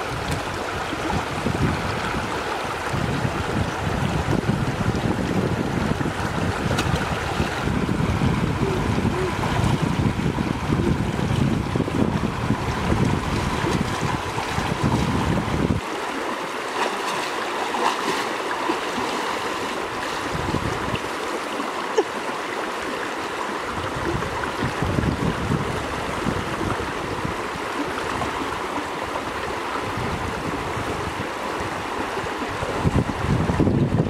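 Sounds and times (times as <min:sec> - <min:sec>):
wind rumble on microphone: 0:00.0 - 0:15.9, 0:19.0 - 0:21.2, 0:23.6 - 0:34.0
river rushing: 0:00.0 - 0:34.0.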